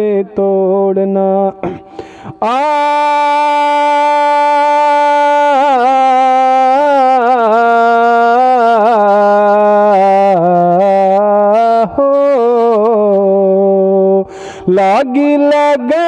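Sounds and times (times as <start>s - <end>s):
man singing a long high note: 0.0s - 16.0s.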